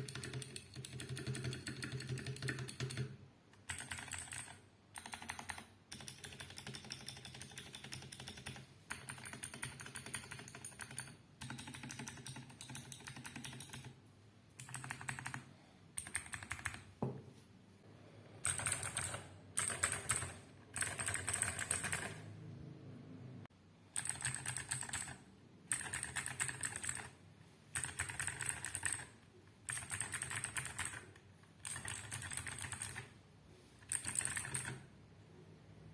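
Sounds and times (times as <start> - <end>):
fast typing on clicky keyboard: 0.0 - 14.0, 14.6 - 16.9, 18.4 - 22.3, 23.9 - 33.2, 33.8 - 34.9.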